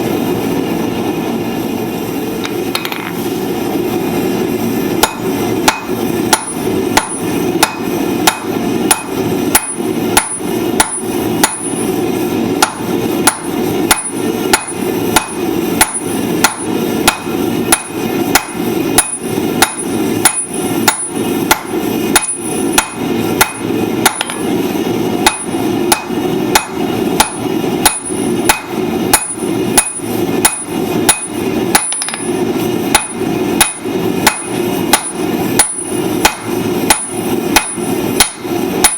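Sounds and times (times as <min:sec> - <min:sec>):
hammer striking steel on anvil: 0:05.0 - 0:11.9, 0:12.6 - 0:24.6, 0:25.2 - 0:38.9.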